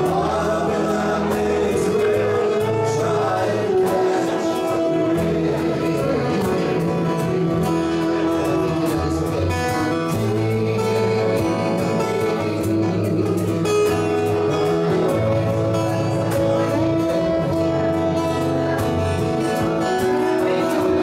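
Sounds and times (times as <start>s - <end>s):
acoustic guitars: 0.0s - 21.0s
double bass low notes: 0.0s - 21.0s.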